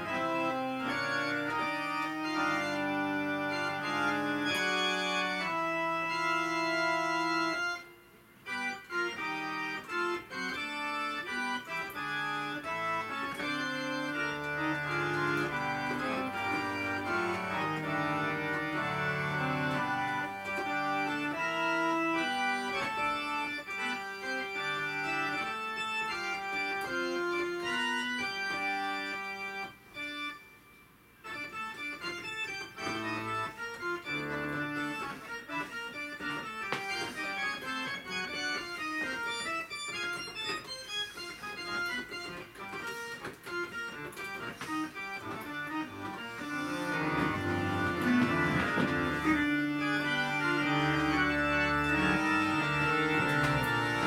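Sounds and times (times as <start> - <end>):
organ playing sustained chords: 0.0 - 54.0.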